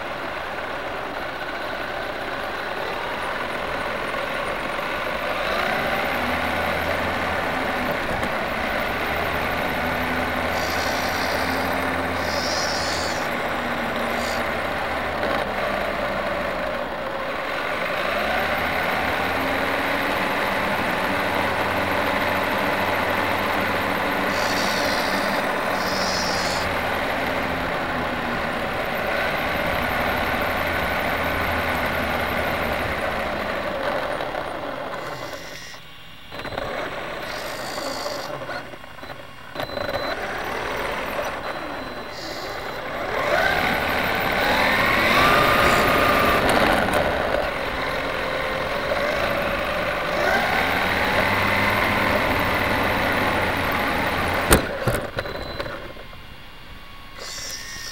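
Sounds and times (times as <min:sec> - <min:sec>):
motor vehicle running: 0:00.0 - 0:57.9
rising and falling whines: 0:00.0 - 0:57.9.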